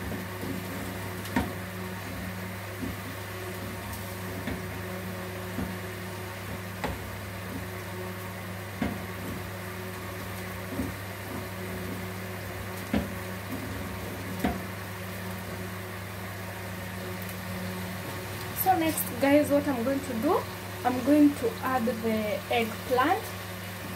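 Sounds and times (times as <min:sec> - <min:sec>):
appliance electrical hum: 0:00.0 - 0:23.9.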